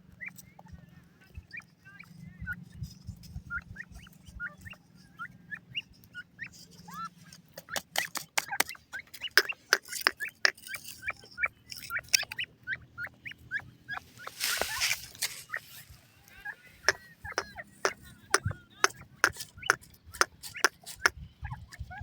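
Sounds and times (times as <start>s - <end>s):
chicks peeping: 3.3s - 22.0s.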